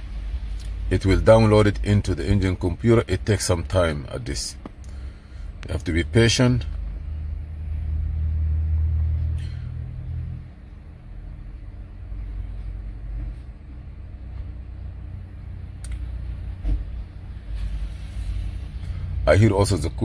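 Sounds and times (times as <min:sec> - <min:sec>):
engine cooling fan running: 0:00.0 - 0:20.0.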